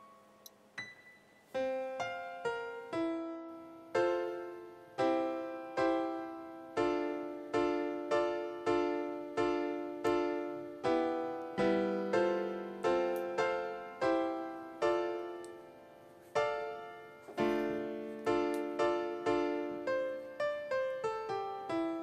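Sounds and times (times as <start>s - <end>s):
piano-like keyboard notes and chords: 0.0s - 22.0s.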